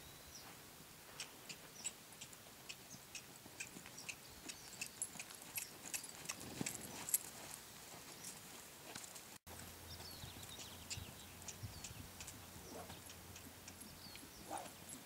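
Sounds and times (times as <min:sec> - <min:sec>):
hooves and footsteps on sand: 0:00.3 - 0:15.0.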